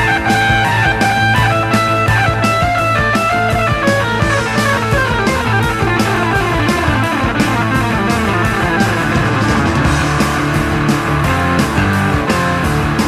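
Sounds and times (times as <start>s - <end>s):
rock music with guitar: 0.0s - 13.0s
steady drum beat: 0.0s - 13.0s.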